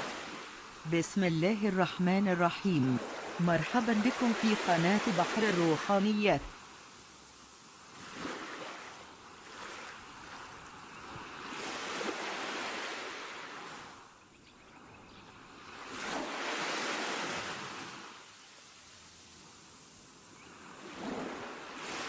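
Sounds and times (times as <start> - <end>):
waves washing in: 0.0 - 14.0, 15.8 - 19.9, 20.7 - 22.0.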